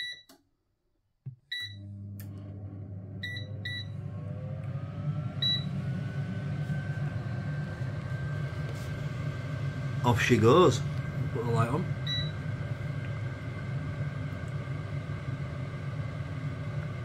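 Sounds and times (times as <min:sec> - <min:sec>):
air fryer humming: 0:01.5 - 0:17.0
fan whine rising: 0:02.0 - 0:17.0.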